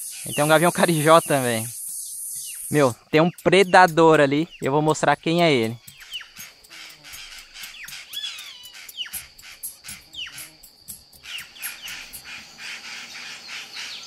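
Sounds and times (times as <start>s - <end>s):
cicadas droning: 0.0s - 14.0s
jays calling harshly: 0.0s - 14.0s.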